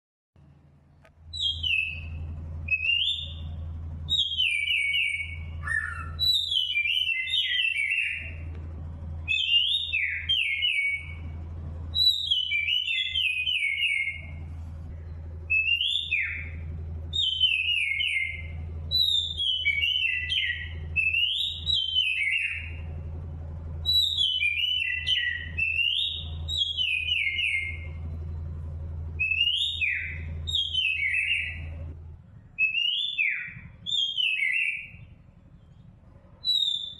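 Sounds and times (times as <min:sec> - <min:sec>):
steady low hum: 0:00.4 - 0:36.9
songbird whistling song: 0:01.3 - 0:08.6, 0:09.2 - 0:14.5, 0:15.5 - 0:23.0, 0:23.8 - 0:28.1, 0:29.2 - 0:31.9, 0:32.6 - 0:36.9.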